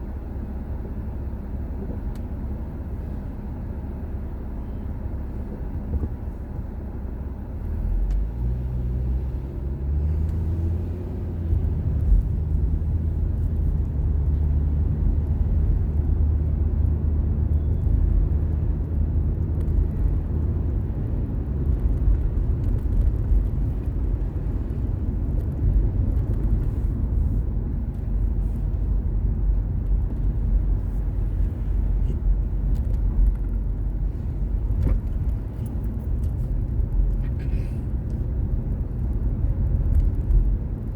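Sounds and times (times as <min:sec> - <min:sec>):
road noise: 0:00.0 - 0:40.9
car engine accelerating: 0:07.6 - 0:40.9.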